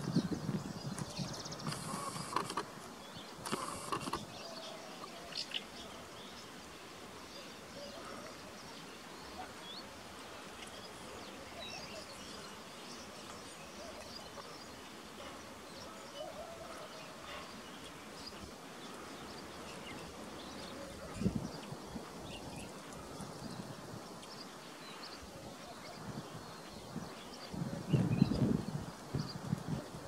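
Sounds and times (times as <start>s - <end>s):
distant small birds chirping: 0.0s - 29.5s.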